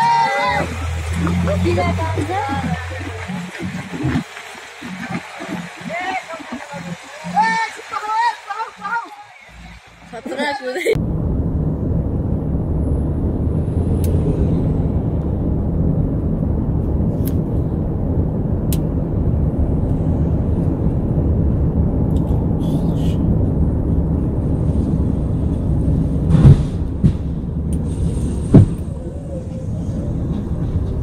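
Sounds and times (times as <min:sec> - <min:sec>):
road and tyre rumble: 0:00.0 - 0:31.0.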